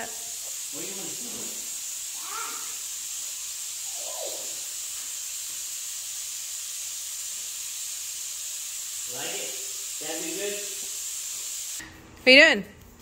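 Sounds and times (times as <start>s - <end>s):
high-pitched hiss: 0.0s - 11.8s.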